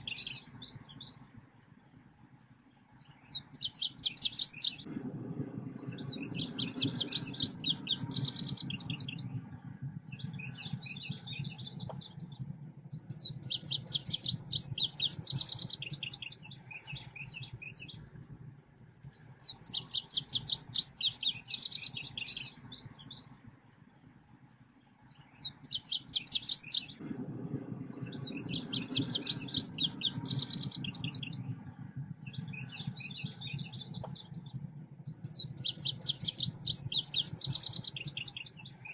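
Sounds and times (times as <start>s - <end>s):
songbird fast high chirping: 0.0s - 1.3s, 2.9s - 4.9s, 5.8s - 9.4s, 10.1s - 18.1s, 19.1s - 23.4s, 25.0s - 27.0s, 28.0s - 31.5s, 32.2s - 38.9s
low hum: 0.0s - 38.9s.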